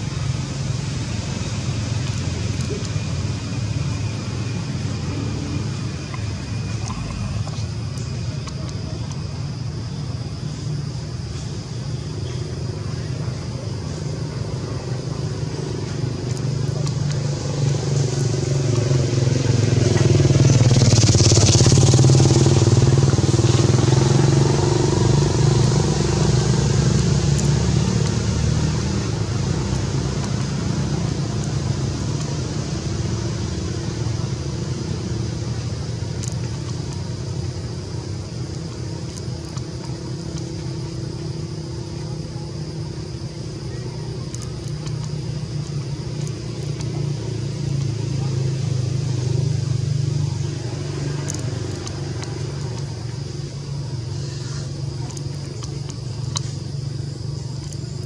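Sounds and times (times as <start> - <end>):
motor engine running: 0.0 - 58.0.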